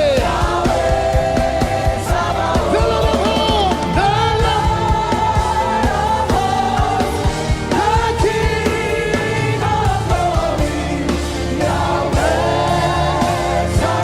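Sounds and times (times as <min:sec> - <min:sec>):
band with bass and drums: 0:00.0 - 0:14.0
voices singing with vibrato: 0:00.0 - 0:14.0.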